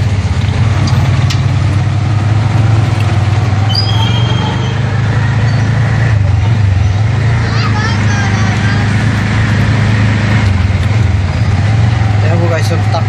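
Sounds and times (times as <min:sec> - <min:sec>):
vehicle engine drone: 0:00.0 - 0:13.0.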